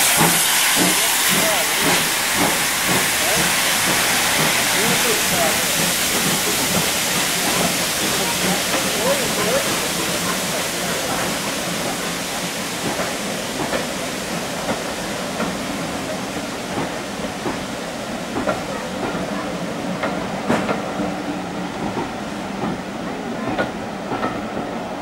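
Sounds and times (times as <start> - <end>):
train wheels clicking on rail joints: 0.0 - 24.8
steam hissing: 0.0 - 25.0.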